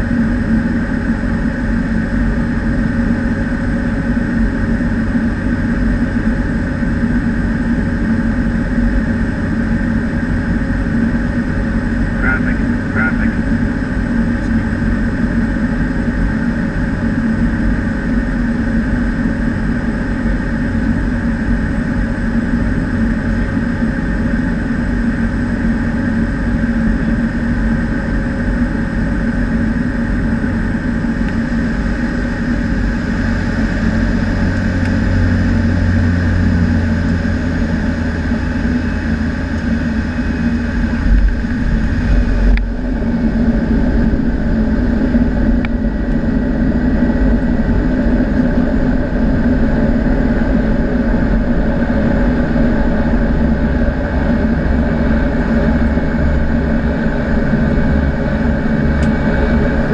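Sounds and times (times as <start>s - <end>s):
turboprop engine running: 0.0s - 59.9s.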